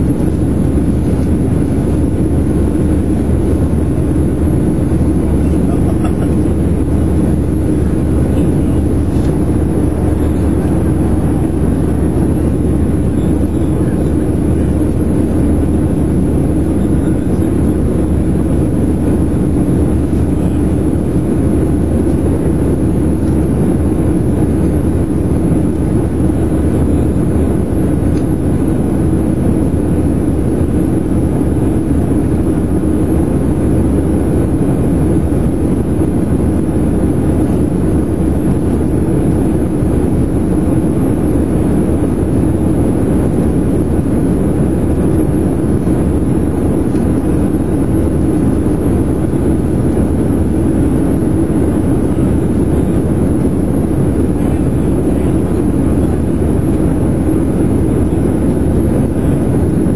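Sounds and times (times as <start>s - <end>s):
jet engines droning: 0.0s - 59.9s.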